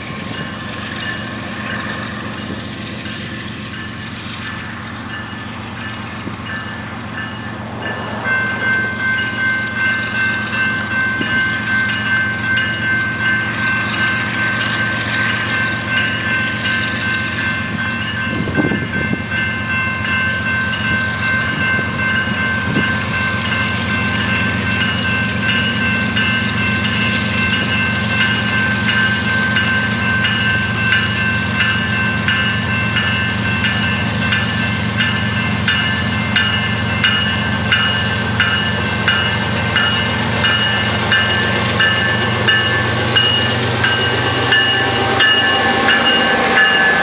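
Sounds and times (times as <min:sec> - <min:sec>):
steady high ringing tone: 0:00.0 - 0:47.0.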